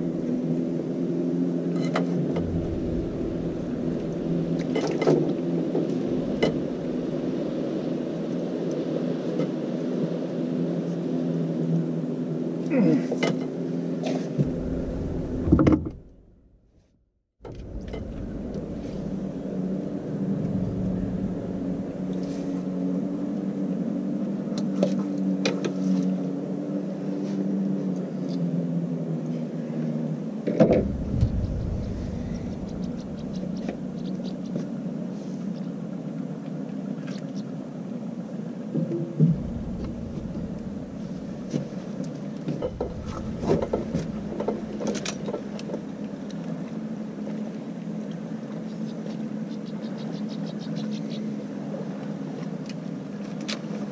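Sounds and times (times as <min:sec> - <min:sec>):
low engine hum: 0:00.0 - 0:35.8, 0:38.2 - 0:49.4.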